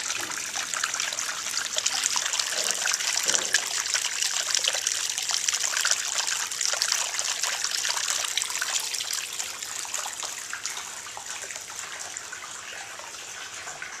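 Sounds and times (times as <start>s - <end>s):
water trickling and splashing: 0.0s - 14.0s.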